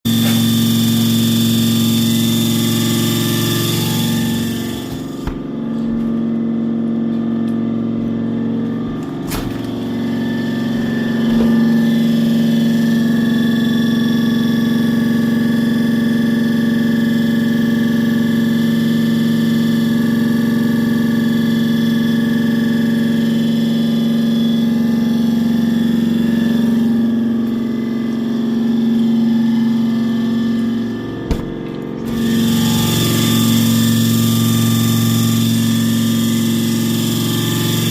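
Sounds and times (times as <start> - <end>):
motor humming: 0.1 - 37.9.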